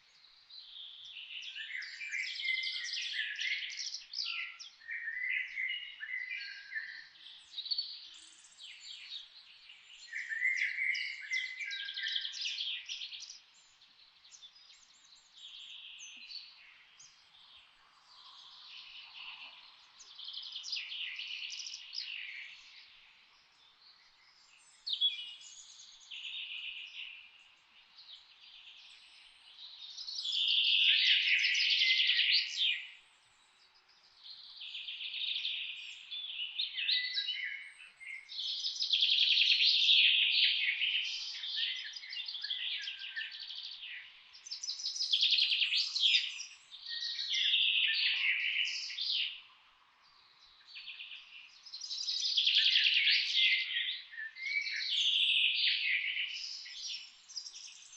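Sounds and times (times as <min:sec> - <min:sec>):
songbirds singing with trills: 0:00.0 - 0:57.9.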